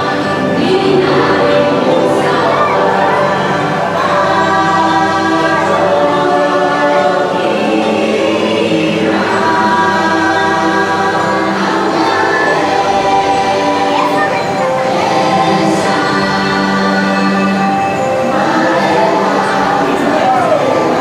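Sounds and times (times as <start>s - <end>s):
choral singing over music: 0.0s - 21.0s.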